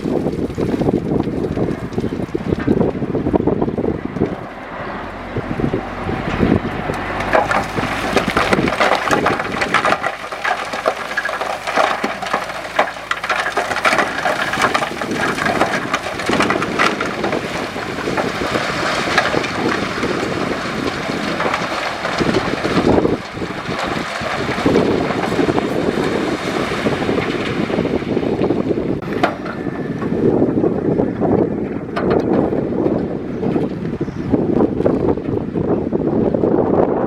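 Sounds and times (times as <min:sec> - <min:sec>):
rocks crunching and clattering: 0:00.0 - 0:35.4
heavy diesel engine running: 0:01.5 - 0:33.3.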